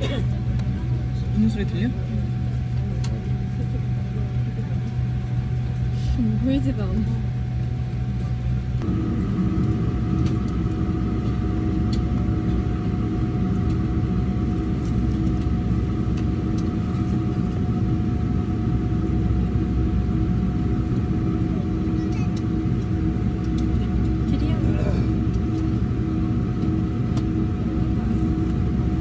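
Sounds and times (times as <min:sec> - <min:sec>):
airliner cabin drone: 0:00.0 - 0:29.0
constant pitched hum: 0:00.0 - 0:29.0.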